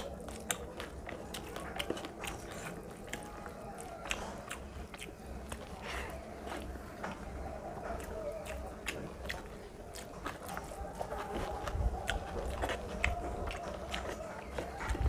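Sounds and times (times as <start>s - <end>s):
close chewing with mouth clicks: 0.0s - 15.0s.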